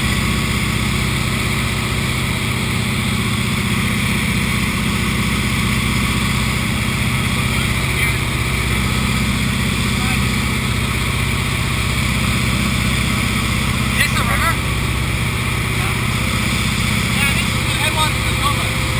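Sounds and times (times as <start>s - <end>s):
propeller plane engine droning: 0.0s - 18.9s.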